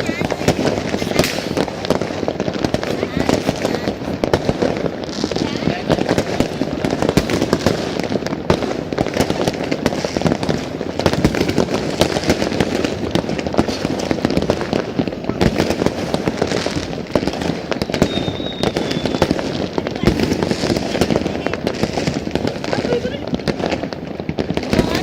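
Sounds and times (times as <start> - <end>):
fireworks and firecrackers: 0.0 - 25.0.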